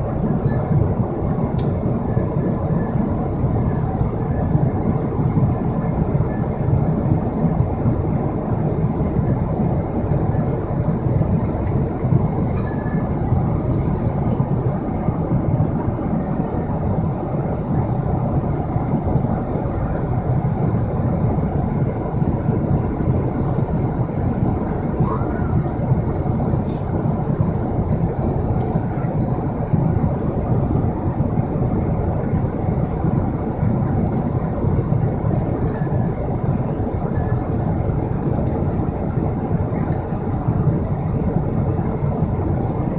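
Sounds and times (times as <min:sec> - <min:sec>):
airplane cabin roar: 0:00.0 - 0:42.9.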